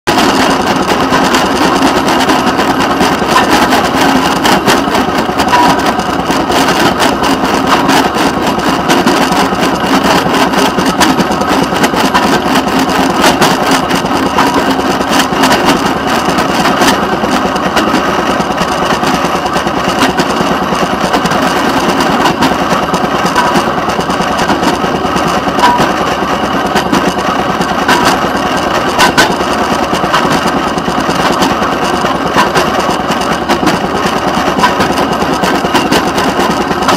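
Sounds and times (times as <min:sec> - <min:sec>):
steel wheels rattling on rails: 0:00.1 - 0:36.9.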